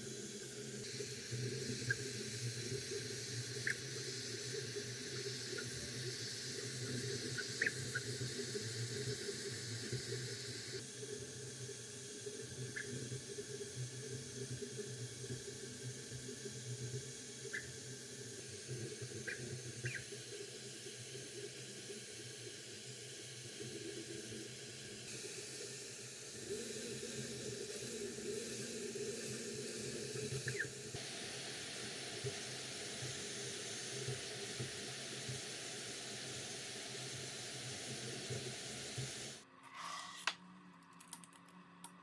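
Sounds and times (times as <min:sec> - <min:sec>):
stepper motors whirring chirps: 0:00.0 - 0:10.8, 0:12.4 - 0:39.4
cooling fans hissing and humming: 0:00.0 - 0:42.0.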